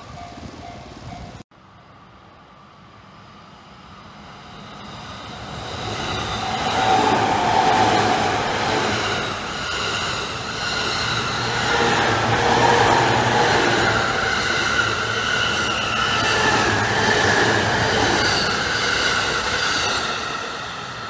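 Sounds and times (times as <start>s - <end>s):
electric train running past: 0.0s - 21.0s.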